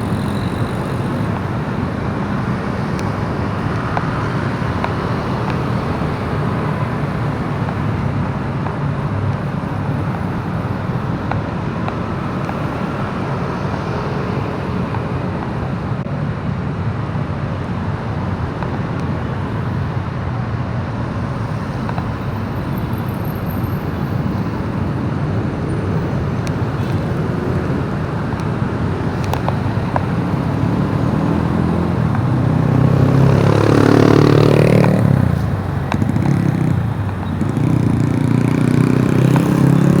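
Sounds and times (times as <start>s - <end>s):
motorcycle engine revving: 0.0s - 16.0s, 21.2s - 40.0s
motorcycle engine and road rumble: 0.0s - 40.0s.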